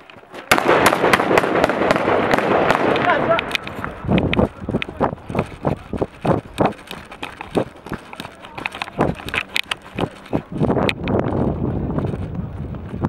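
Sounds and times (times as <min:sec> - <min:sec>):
running footsteps on gravel: 0:02.3 - 0:13.0.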